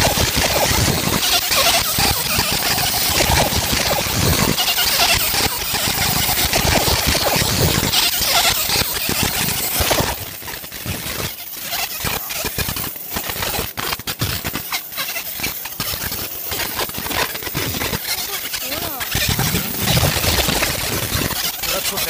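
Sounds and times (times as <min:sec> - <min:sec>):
laser sizzling on metal: 0:00.0 - 0:22.0.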